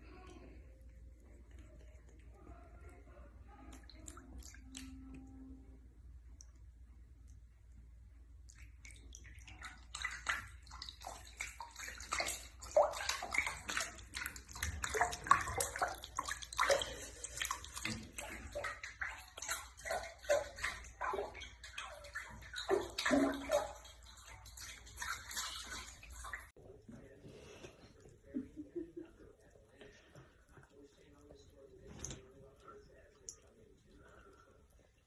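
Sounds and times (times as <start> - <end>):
water splashing and sloshing: 0.0 - 35.0.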